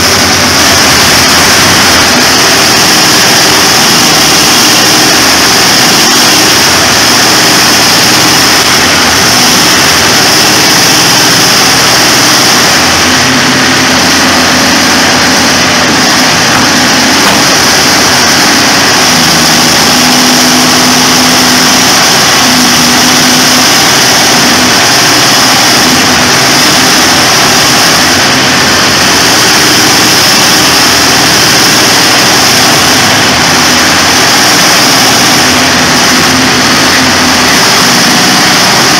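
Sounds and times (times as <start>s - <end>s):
excavator engines running loud: 0.0s - 38.9s.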